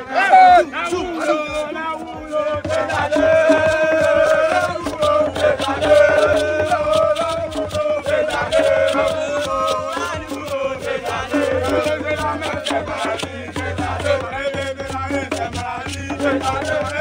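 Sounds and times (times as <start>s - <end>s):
person singing long held notes: 0.0s - 14.7s
music with steady beat: 0.0s - 17.0s.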